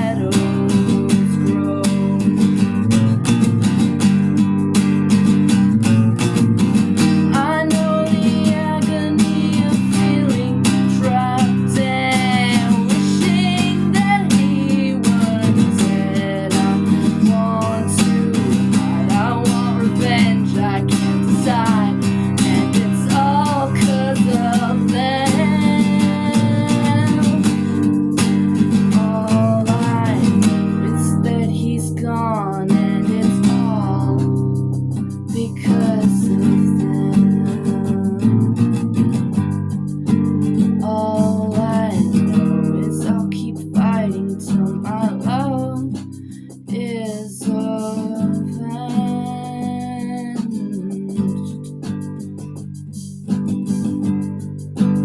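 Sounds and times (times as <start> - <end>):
strummed acoustic guitar: 0.0 - 55.0.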